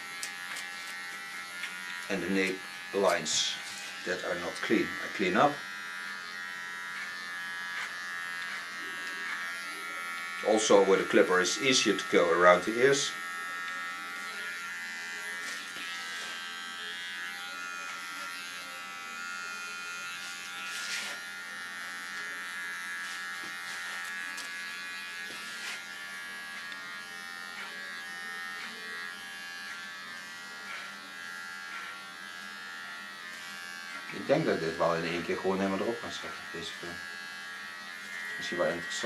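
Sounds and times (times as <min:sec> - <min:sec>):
electric hair clipper buzzing: 0:00.0 - 0:39.0.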